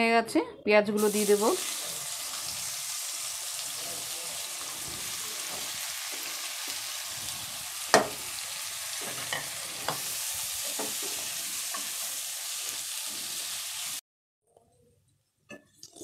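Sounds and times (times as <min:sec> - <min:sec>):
onions sizzling in oil: 0:01.0 - 0:14.0.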